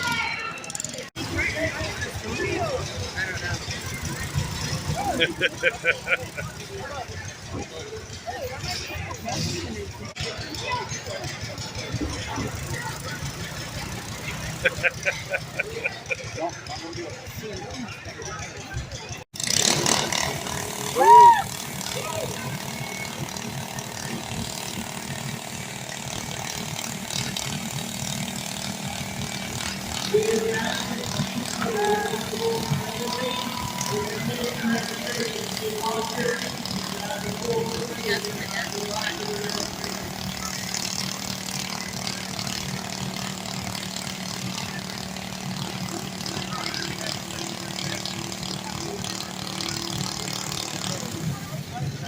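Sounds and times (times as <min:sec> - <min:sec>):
lawn tractor engine rattling: 0:00.0 - 0:52.0.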